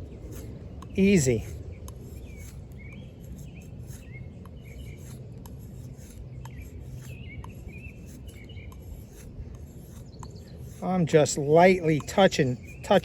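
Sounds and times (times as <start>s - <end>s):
low background hum: 0.0s - 13.0s
small birds chirping: 0.0s - 13.0s.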